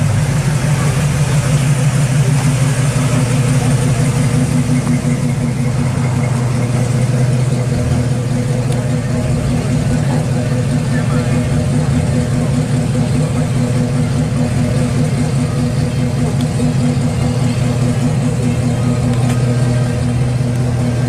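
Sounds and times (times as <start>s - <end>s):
pickup truck engine running: 0.0s - 21.0s.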